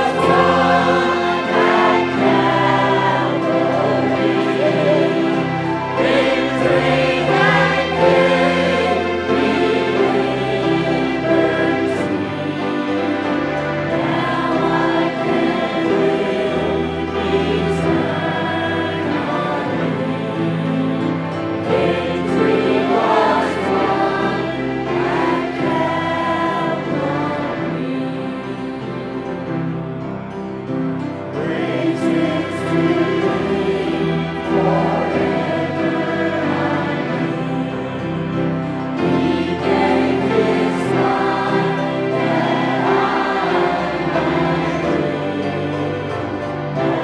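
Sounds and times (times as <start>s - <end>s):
choir singing a hymn: 0.0s - 47.0s
held instrumental chords: 0.0s - 47.0s
musical accompaniment: 0.0s - 47.0s.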